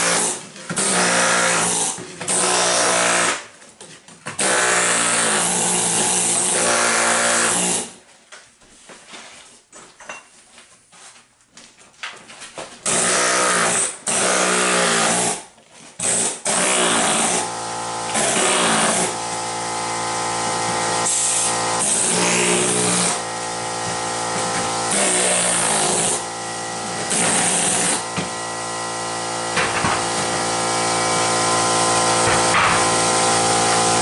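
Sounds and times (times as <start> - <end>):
air hammer chipping tiles: 0.0 - 3.5, 4.4 - 8.0, 12.8 - 34.0.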